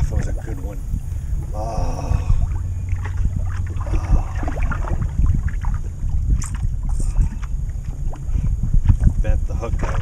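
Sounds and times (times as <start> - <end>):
water lapping against boat hull: 0.0 - 10.0
wind buffeting microphone: 0.0 - 10.0.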